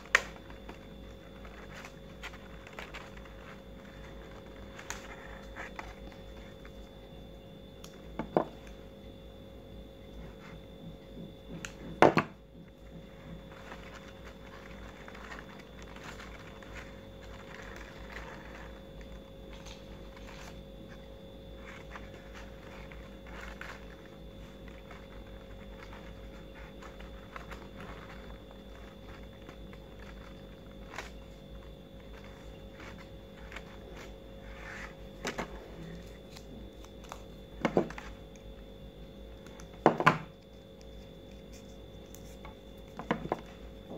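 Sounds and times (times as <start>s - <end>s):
paper rustling: 0.0s - 7.0s, 12.8s - 38.4s, 39.3s - 43.9s
faint steady hum: 0.0s - 43.9s.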